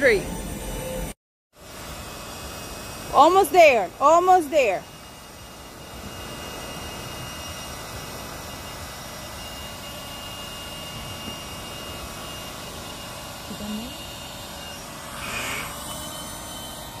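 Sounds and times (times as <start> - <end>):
electric air pump whirring: 0.0 - 17.0.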